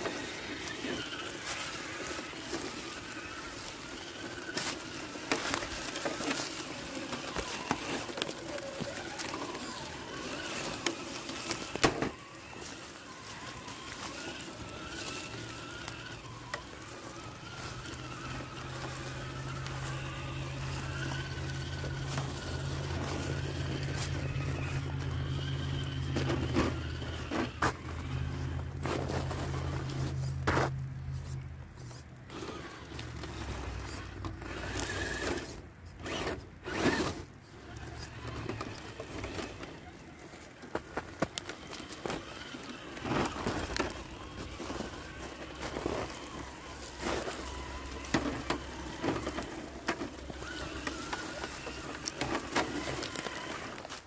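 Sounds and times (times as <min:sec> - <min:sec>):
small electric motor whining: 0:00.0 - 0:54.0.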